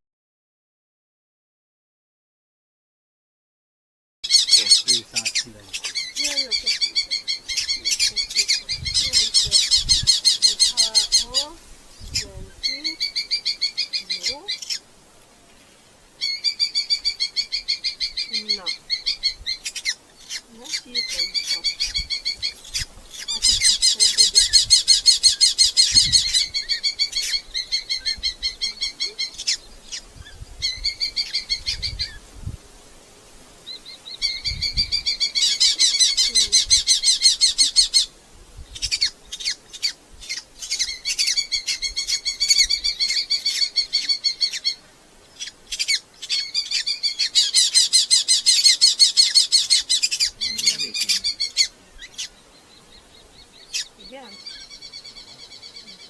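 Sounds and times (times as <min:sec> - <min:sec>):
falcons calling: 0:04.2 - 0:15.0, 0:16.2 - 0:32.2, 0:33.6 - 0:56.0.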